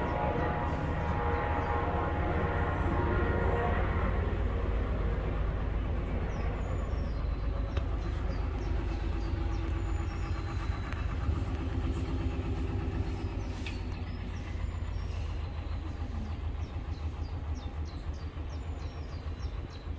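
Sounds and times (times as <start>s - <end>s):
boat engine low throb: 0.0s - 19.9s.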